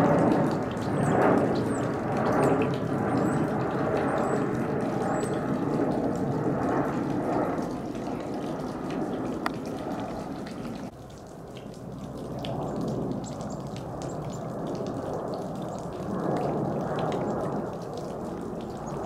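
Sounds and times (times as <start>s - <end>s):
jet plane passing overhead: 0.0s - 19.0s.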